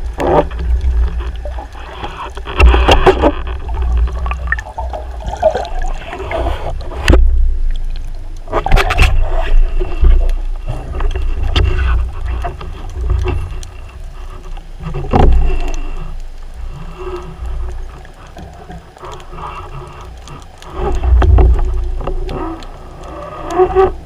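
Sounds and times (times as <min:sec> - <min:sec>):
underwater water rumble: 0:00.0 - 0:24.0.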